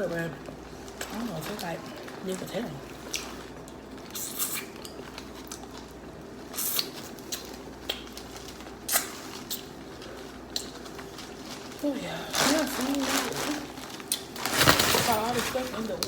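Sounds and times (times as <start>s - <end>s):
chewing: 0.4s - 14.4s.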